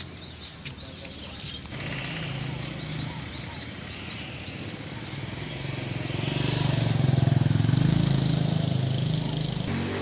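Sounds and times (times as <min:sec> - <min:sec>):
vehicle engine passing by: 0:01.7 - 0:10.0.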